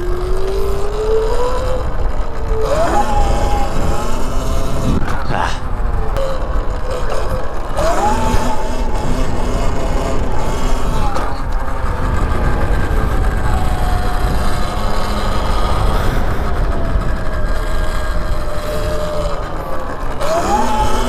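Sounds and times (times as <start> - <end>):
motorcycle engine revving: 0.0 - 21.0
wind rumble on microphone: 0.0 - 21.0.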